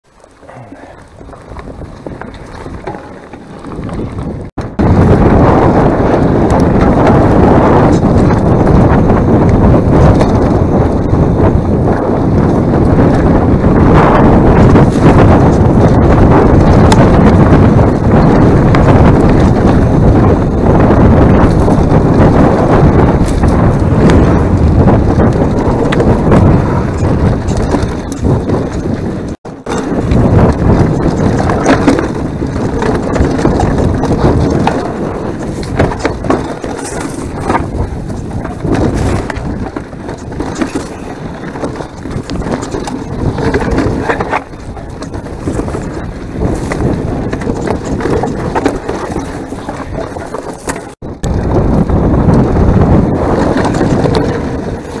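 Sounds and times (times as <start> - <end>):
wind buffeting microphone: 0.0 - 55.0
bike rattling: 0.1 - 55.0.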